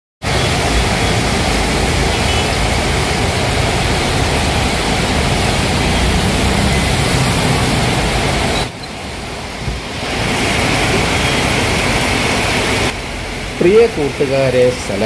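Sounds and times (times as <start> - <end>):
heavy rain on wet street: 0.2 - 15.0
vehicles passing through water: 0.2 - 15.0.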